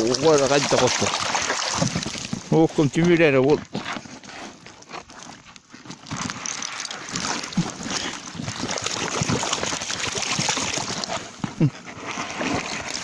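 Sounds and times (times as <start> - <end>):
wet fishing net rustling: 0.0 - 13.0.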